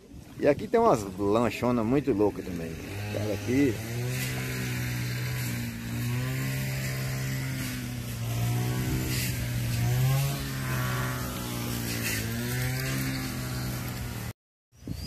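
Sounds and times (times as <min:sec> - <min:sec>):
brush cutter engine running: 0:00.5 - 0:14.3.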